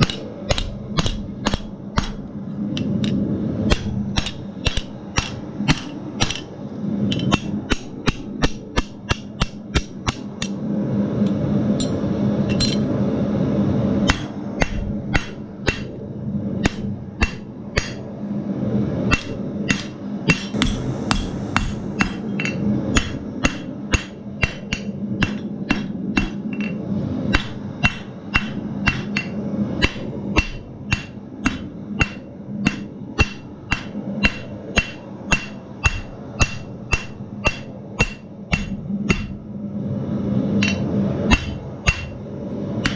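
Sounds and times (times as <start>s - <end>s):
hammer striking steel on anvil: 0.0s - 6.5s, 7.1s - 10.6s, 11.8s - 12.9s, 14.0s - 16.0s, 16.6s - 18.0s, 19.1s - 39.4s, 40.6s - 42.2s
steady rushing noise: 0.0s - 42.9s.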